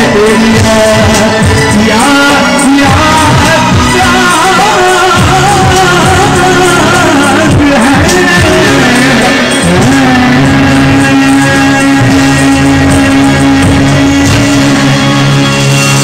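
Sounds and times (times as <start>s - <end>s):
guitar: 0.0s - 16.0s
harmonium: 0.0s - 16.0s
man singing: 0.0s - 16.0s.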